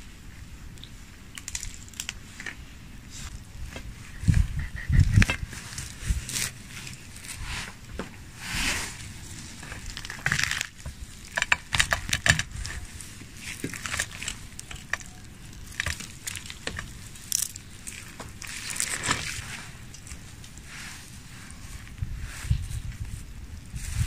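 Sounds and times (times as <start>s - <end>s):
roasted skin crackling and ripping: 1.3s - 2.5s, 5.1s - 7.9s, 8.5s - 24.0s.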